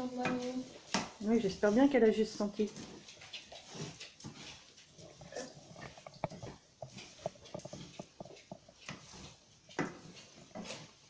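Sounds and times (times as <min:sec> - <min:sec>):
wooden spatula scraping frying pan: 0:00.0 - 0:11.0.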